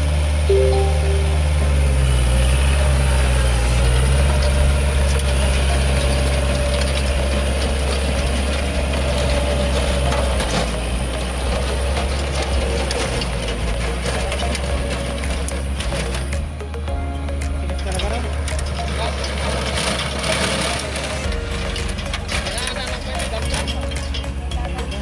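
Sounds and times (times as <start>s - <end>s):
tractor engine droning: 0.0s - 25.0s
rotary tiller churning soil: 3.1s - 16.6s, 17.7s - 25.0s.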